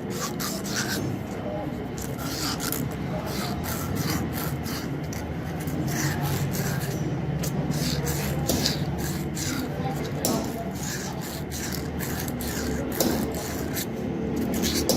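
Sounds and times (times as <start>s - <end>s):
hand tool scraping: 0.0s - 14.9s
steady low hum: 0.0s - 14.9s.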